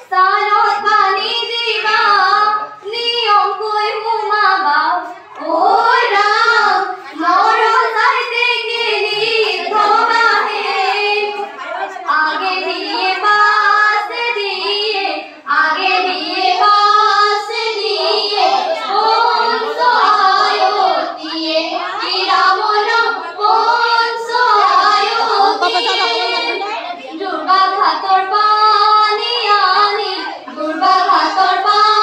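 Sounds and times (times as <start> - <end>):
girls singing: 0.0 - 32.0.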